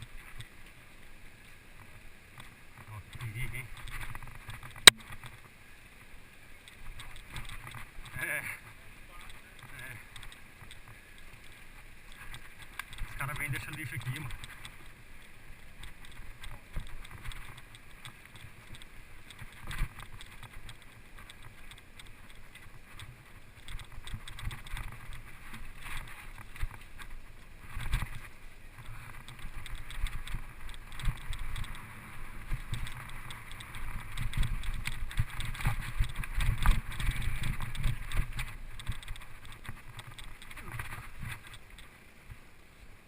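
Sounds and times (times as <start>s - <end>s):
wind: 0.0s - 43.0s.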